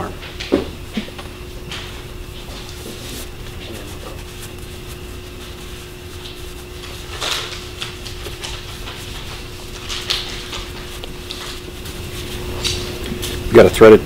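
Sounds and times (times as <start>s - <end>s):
steady low hum: 0.0s - 14.0s
glove rustling and handling: 0.8s - 13.8s.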